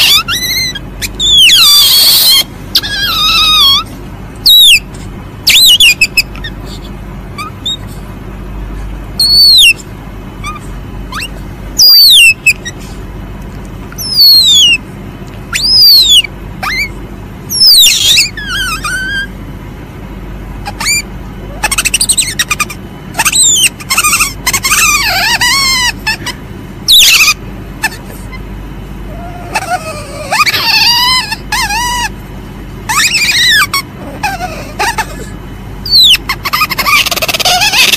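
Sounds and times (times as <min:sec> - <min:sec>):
civet squealing: 0:00.0 - 0:07.9, 0:09.2 - 0:09.8, 0:10.4 - 0:12.9, 0:13.9 - 0:14.9, 0:15.5 - 0:19.4, 0:20.6 - 0:28.4, 0:29.1 - 0:32.2, 0:32.8 - 0:37.9
steady low hum: 0:00.0 - 0:37.9.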